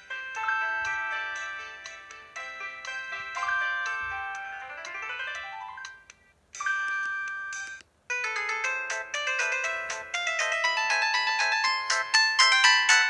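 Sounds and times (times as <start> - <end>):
bell-like melody: 0.0 - 6.0, 6.6 - 13.0
phone ringtones playing: 0.0 - 6.0, 6.6 - 13.0.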